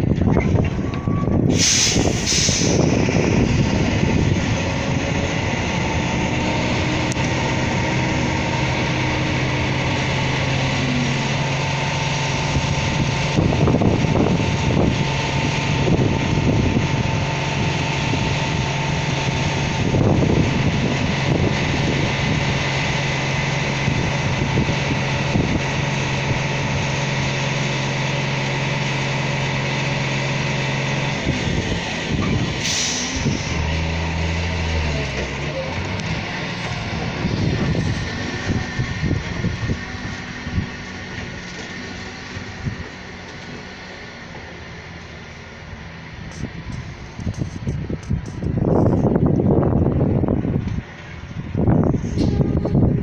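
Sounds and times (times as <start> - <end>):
truck engine running hydraulics: 0.0 - 53.0.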